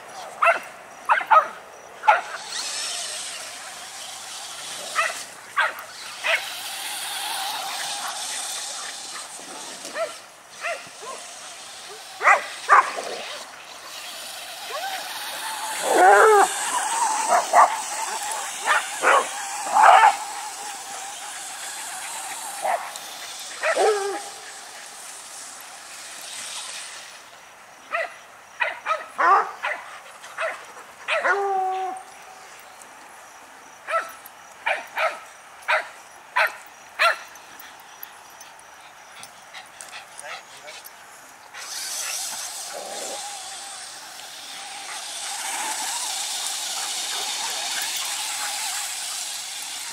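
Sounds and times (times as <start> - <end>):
dogs barking and yipping: 0.1 - 27.2, 27.9 - 32.7, 33.8 - 49.9.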